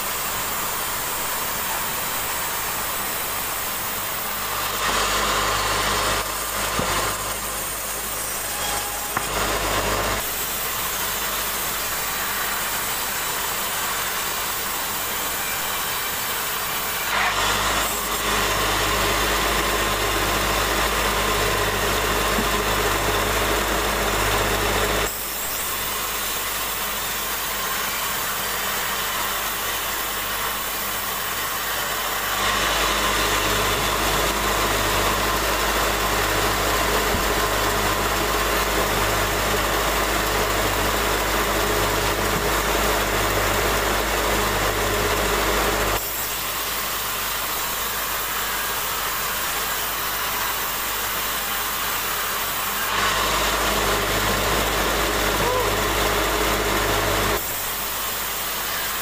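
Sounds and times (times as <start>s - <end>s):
saw cutting log: 0.0s - 59.0s
sawmill machinery running: 0.0s - 59.0s.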